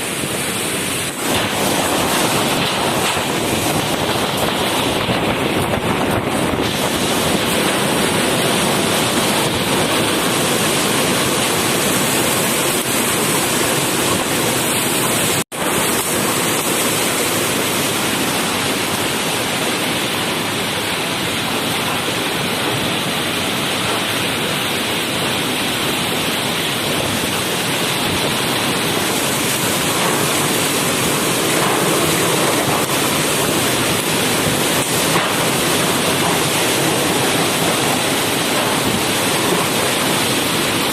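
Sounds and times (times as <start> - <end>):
rough sea surf: 0.0 - 40.9
strong wind: 0.0 - 40.9.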